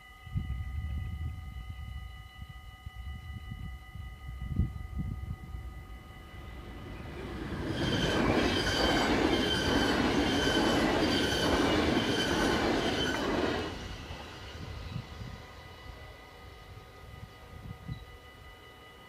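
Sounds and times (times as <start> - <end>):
electric train passing: 2.9 - 19.0.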